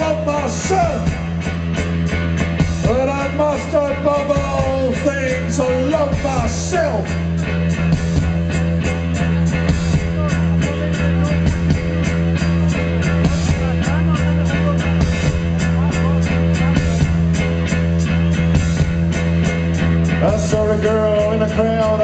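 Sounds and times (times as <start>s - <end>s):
electric guitar: 0.0s - 22.0s.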